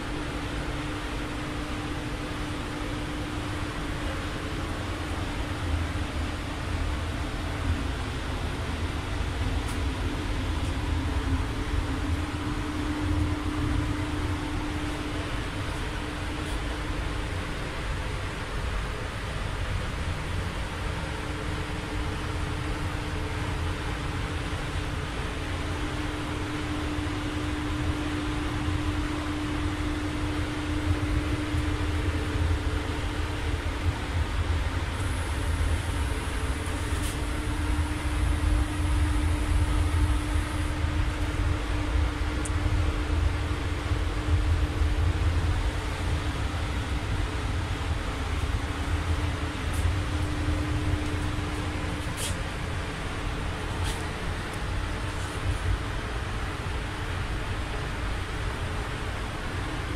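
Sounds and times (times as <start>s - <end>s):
ventilation rush with fan hum: 0.0s - 59.9s.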